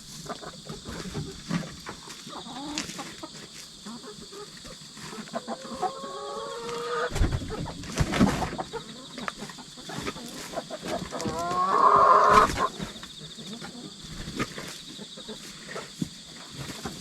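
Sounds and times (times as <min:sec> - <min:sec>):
hens calling: 0:00.0 - 0:17.0
insects chirping: 0:00.0 - 0:17.0.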